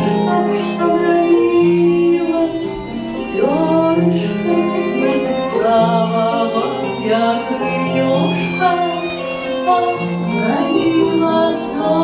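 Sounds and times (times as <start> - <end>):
live folk song: 0.0 - 12.0.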